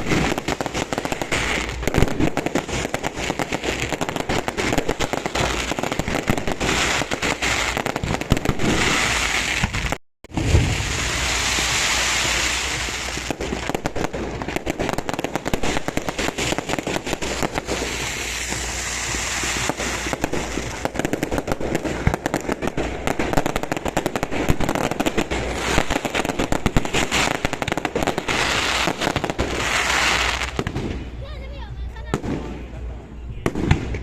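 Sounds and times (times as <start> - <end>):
firework hissing rush: 0.0 - 31.2
fireworks crackling and popping: 0.0 - 34.0.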